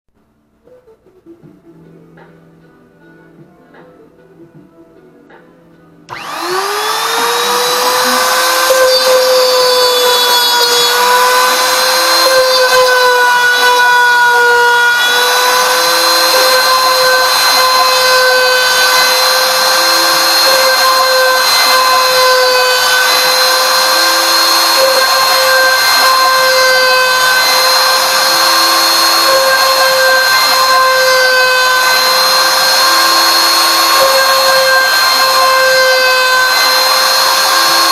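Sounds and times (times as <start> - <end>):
router spindle whine: 6.1 - 37.9.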